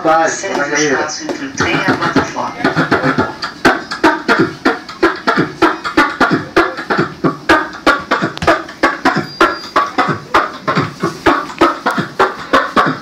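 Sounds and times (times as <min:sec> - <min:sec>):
beatboxing hip-hop beat: 0:00.0 - 0:13.0.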